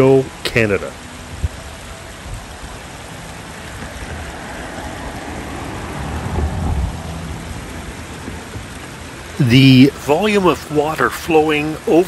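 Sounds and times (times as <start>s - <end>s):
outdoor rushing noise: 1.0s - 12.0s.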